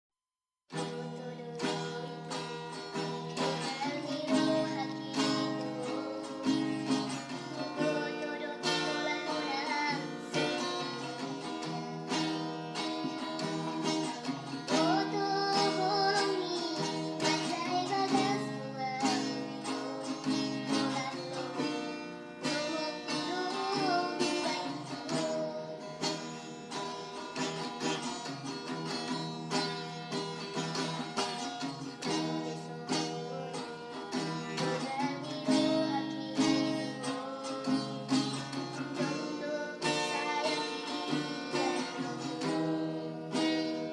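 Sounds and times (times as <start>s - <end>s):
person singing: 0.7s - 28.0s, 29.1s - 43.9s
acoustic guitar strumming: 0.7s - 43.9s.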